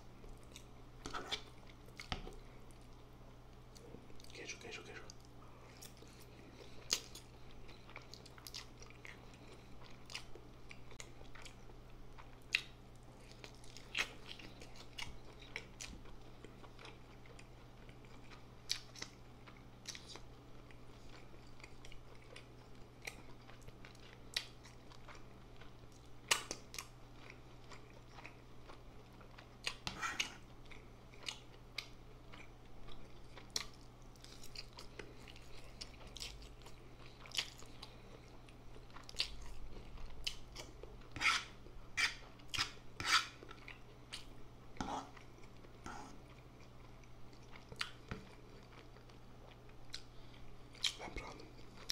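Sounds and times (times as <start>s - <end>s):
person chewing noodles: 0.2s - 3.1s, 3.7s - 51.9s.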